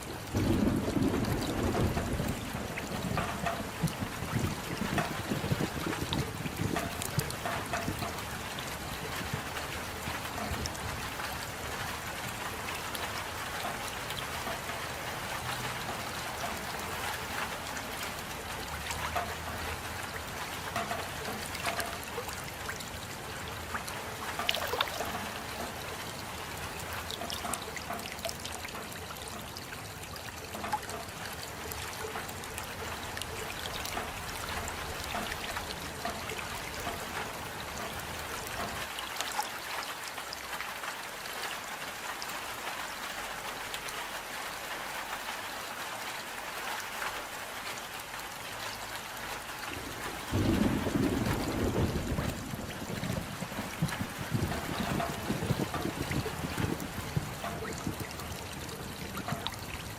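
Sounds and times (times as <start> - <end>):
steady rain: 0.0 - 59.9
water drips: 0.0 - 59.9
water trickling: 0.0 - 59.9.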